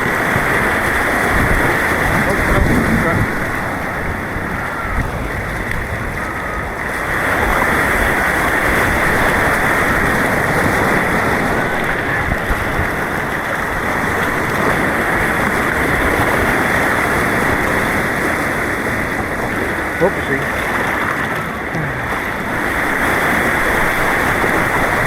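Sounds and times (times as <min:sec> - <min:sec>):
white water rushing: 0:00.0 - 0:25.0.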